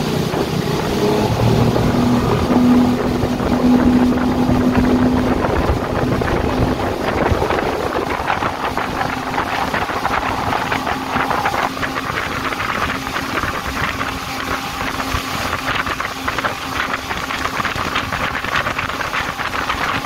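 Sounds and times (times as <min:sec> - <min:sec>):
outboard engine hum: 0:00.0 - 0:20.0
water rushing and splashing: 0:00.0 - 0:20.0.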